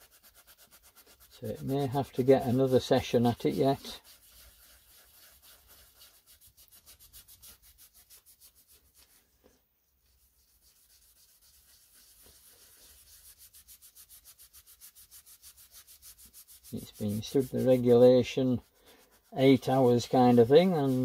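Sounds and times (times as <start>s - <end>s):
scouring pad scrubbing metal: 0.0s - 9.2s, 10.1s - 21.0s.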